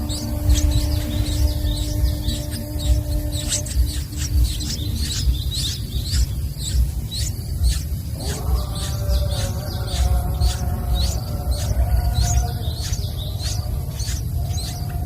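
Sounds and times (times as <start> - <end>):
bird chick chirping: 0.0 - 15.0
low thumping: 0.0 - 15.0.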